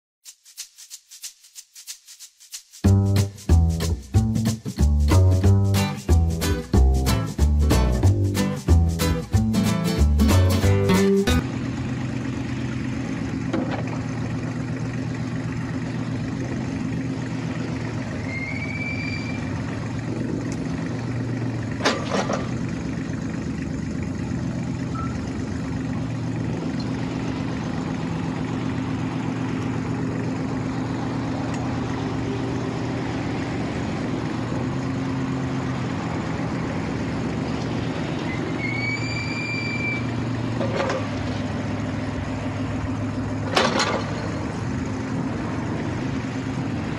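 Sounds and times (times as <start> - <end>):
diesel engine idling: 3.5 - 46.9.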